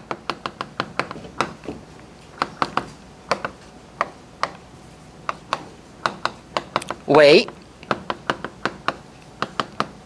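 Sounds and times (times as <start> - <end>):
chalk tapping on blackboard: 0.0 - 4.6, 5.2 - 10.0.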